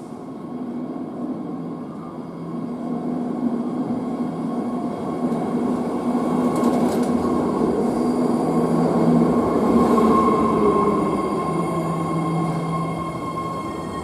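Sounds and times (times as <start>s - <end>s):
train wheels rumbling on rail: 2.4s - 14.0s.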